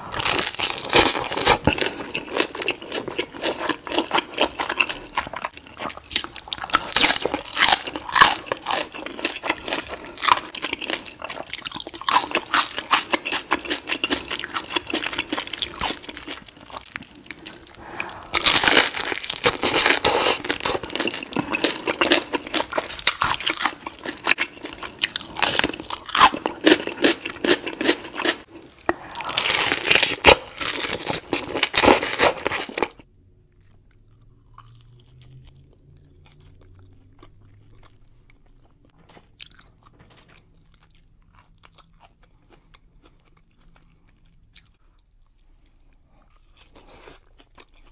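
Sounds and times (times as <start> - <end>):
crunching and chewing tacos: 0.0 - 47.9.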